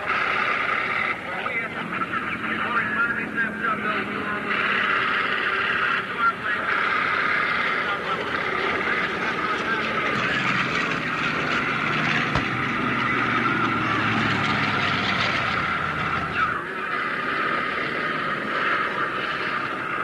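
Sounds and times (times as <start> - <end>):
deep engine hum: 0.0 - 20.0
piston aircraft engines droning: 0.0 - 20.0.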